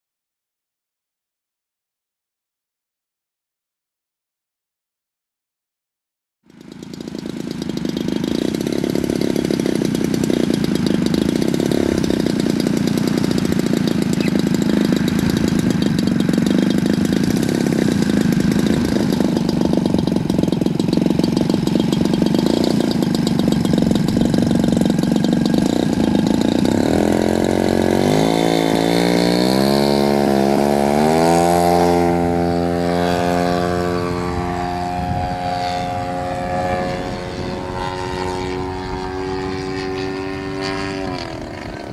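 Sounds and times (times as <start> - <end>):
model airplane engine running: 6.5 - 41.9.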